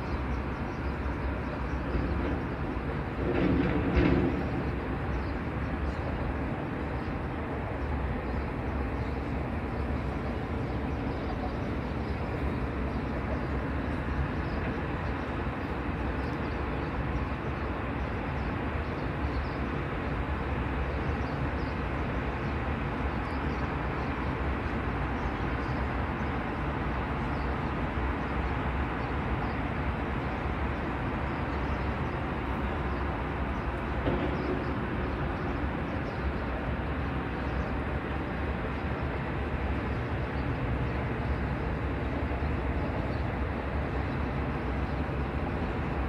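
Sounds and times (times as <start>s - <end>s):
distant city traffic rumble: 0.0s - 46.0s.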